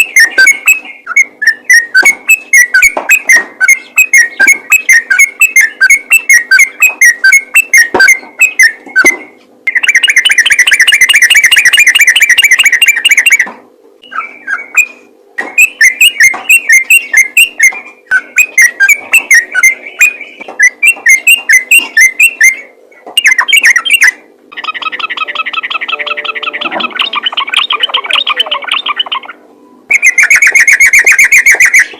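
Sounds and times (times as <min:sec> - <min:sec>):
bird singing chattering notes: 0:00.0 - 0:31.9.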